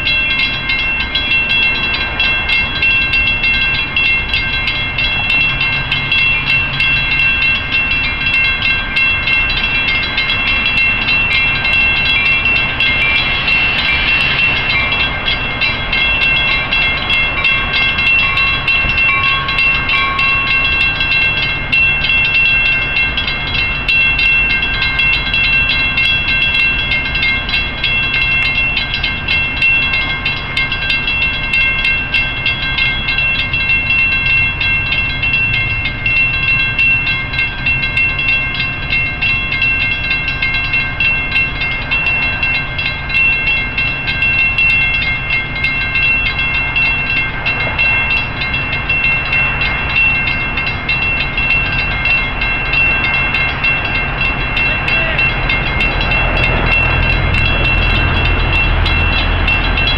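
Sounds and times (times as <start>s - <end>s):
crossing warning bell ringing: 0.0s - 59.9s
train rumbling: 0.0s - 59.9s.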